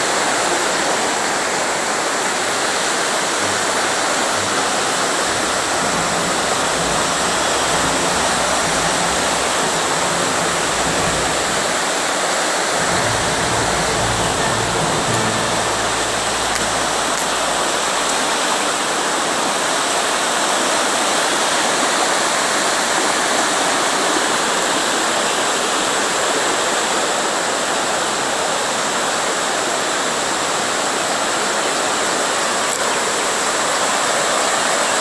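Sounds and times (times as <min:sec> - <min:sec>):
rushing white water: 0:00.0 - 0:35.0.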